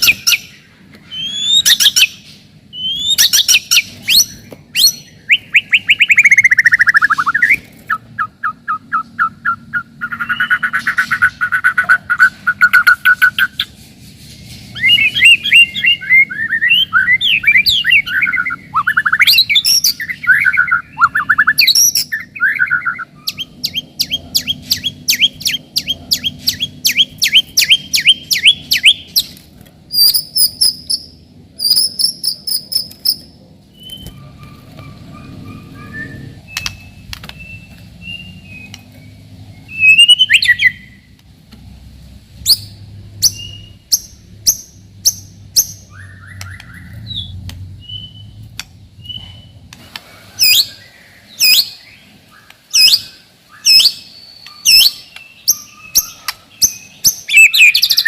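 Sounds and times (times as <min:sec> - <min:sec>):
songbird singing whistles and trills: 0:00.0 - 0:13.7, 0:14.8 - 0:29.3, 0:29.9 - 0:41.1, 0:42.4 - 0:49.7, 0:50.4 - 0:58.0.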